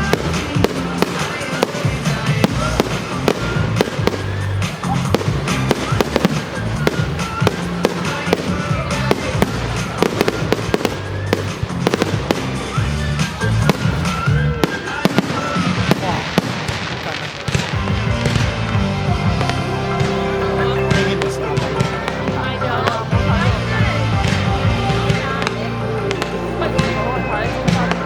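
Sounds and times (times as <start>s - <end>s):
fireworks bangs and crackles: 0.0s - 28.0s
music with steady bass line: 0.0s - 28.0s.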